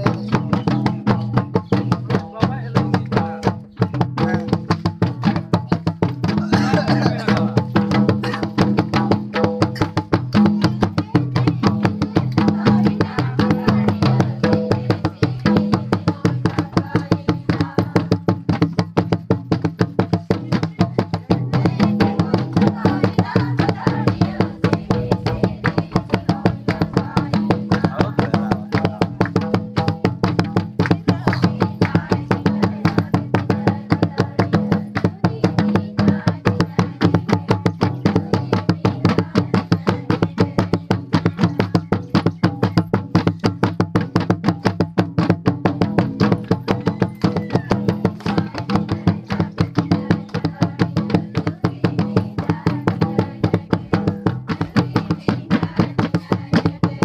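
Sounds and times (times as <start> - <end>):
hand drum beating fast rhythm: 0.0 - 57.0.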